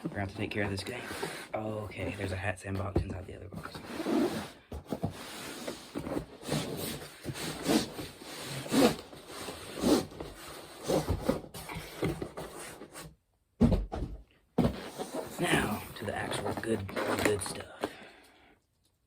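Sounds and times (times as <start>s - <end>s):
cardboard rubbing and scraping: 0.0s - 2.9s, 3.5s - 13.1s, 14.6s - 17.8s.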